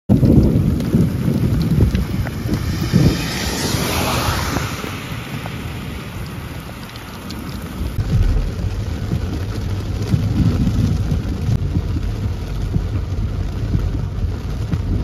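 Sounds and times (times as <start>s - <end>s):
hiss of driving rain: 0.1s - 15.0s
wind buffeting microphone: 0.1s - 15.0s.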